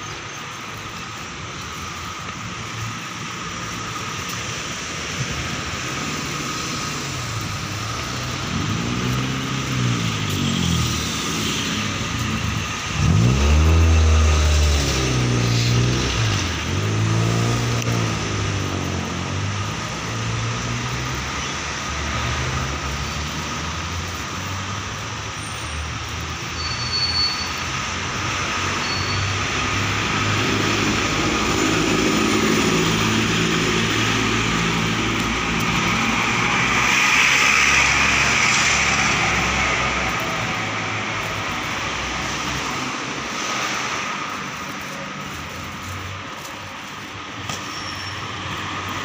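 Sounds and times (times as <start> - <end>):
cars running along road: 0.0 - 49.0
vehicle passing close: 3.2 - 25.0, 29.6 - 47.3.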